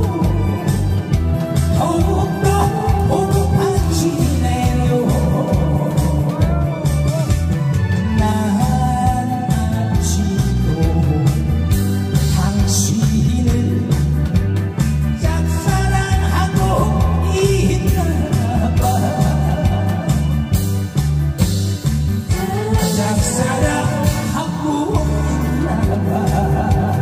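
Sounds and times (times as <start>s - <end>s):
person singing: 0.0s - 14.4s, 15.1s - 20.8s, 22.2s - 27.0s
amplified backing track with beat: 0.0s - 27.0s.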